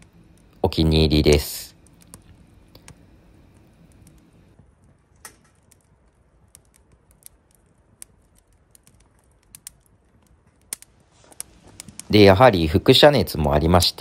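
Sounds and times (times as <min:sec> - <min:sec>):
firewood crackling: 0:00.0 - 0:14.0.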